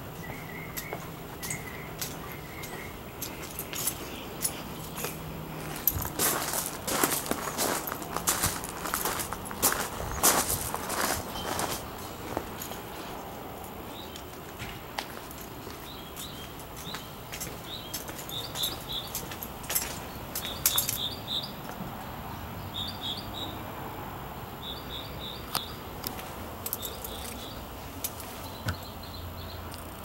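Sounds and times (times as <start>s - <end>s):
small birds chirping: 0.0s - 23.6s, 24.6s - 30.0s.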